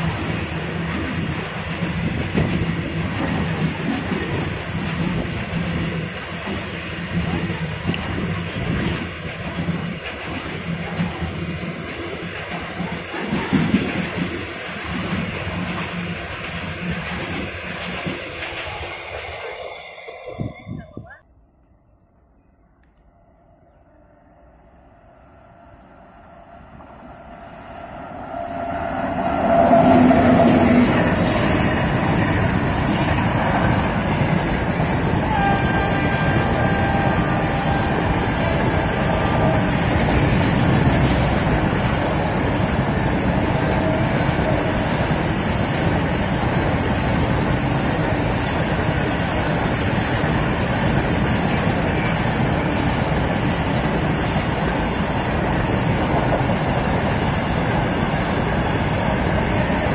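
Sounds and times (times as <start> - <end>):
freight train wheels on rails: 0.0 - 21.6, 22.8 - 59.9
electric locomotive passing: 0.0 - 59.9.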